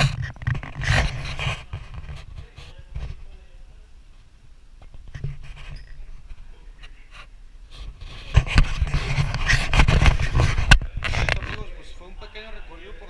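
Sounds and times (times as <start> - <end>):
rustling on microphone: 0.0 - 13.0.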